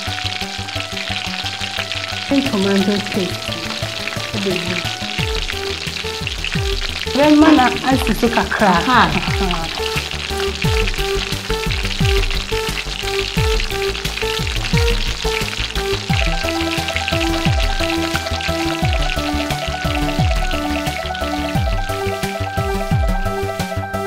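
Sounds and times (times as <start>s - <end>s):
background music: 0.0s - 24.0s
chicken sizzling in oil: 0.0s - 24.0s.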